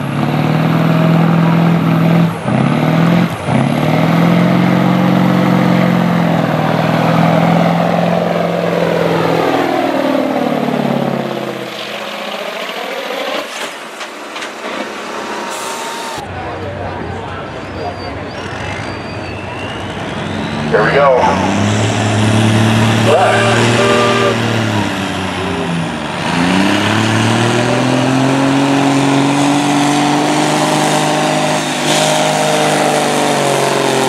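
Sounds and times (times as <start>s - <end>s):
truck engine revving under load: 0.0s - 16.2s, 18.2s - 34.0s.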